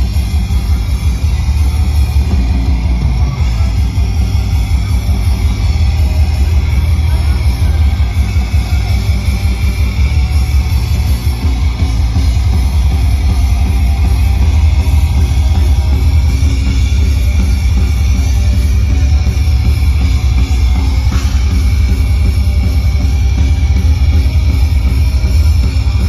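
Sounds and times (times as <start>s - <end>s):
live metal band playing: 0.0s - 26.0s.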